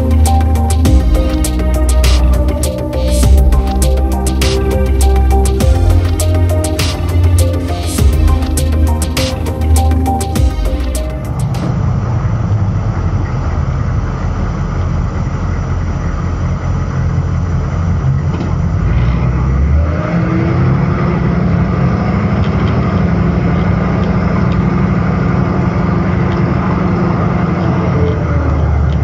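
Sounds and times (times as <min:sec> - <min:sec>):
diesel engine rumbling: 0:00.0 - 0:29.0
engine whine: 0:00.0 - 0:29.0.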